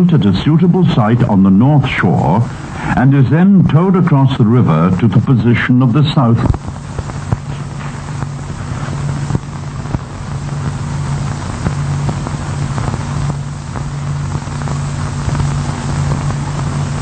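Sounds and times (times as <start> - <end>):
even hiss: 0.0 - 17.0
low engine-like drone: 0.0 - 17.0.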